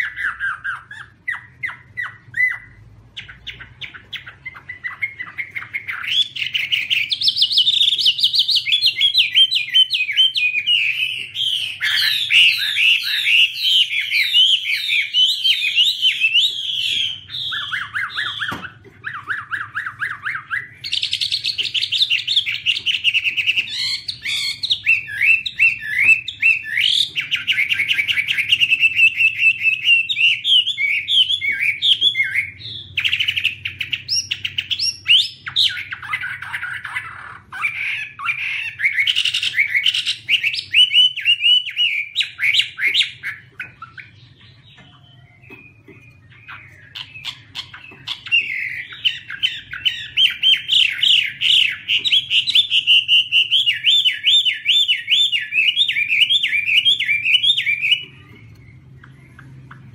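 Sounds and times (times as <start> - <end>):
bird singing whistled phrases: 0.0 - 59.9.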